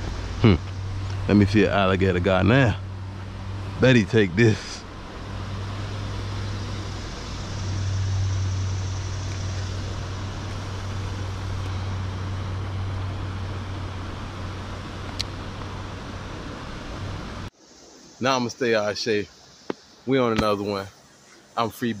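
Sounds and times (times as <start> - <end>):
road traffic noise: 0.0 - 18.3, 18.9 - 22.0
steady low hum: 0.0 - 22.0.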